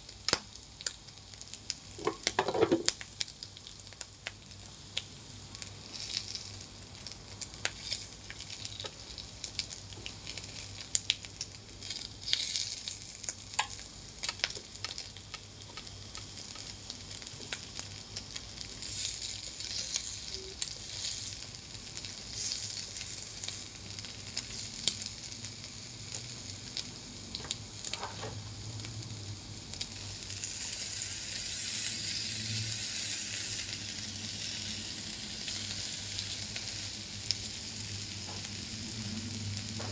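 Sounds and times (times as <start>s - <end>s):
meat sizzling on grill: 0.0s - 39.9s.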